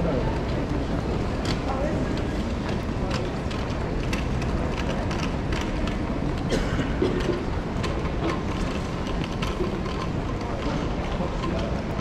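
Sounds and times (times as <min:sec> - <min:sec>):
suitcase wheels rolling on tiles: 0:00.3 - 0:06.5, 0:07.2 - 0:12.0.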